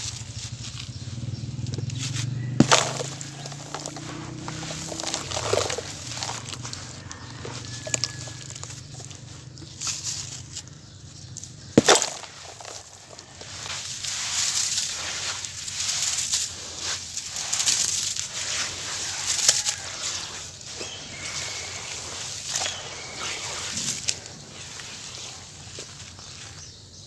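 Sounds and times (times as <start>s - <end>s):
sand-cement chunk cracking: 0.0s - 26.7s
gritty crunching and crumbling: 0.0s - 27.0s.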